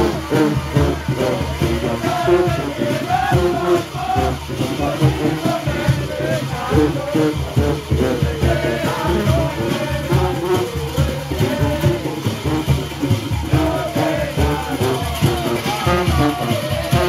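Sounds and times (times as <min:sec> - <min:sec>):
brass horns playing melody: 0:00.0 - 0:17.0
drums beating fast rhythm: 0:00.0 - 0:17.0.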